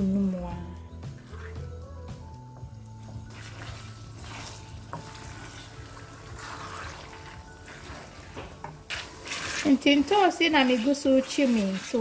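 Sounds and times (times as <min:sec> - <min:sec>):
sauce sizzling and bubbling in pan: 0:00.9 - 0:12.0
wooden spoon scraping a pan: 0:01.2 - 0:01.8, 0:03.0 - 0:12.0.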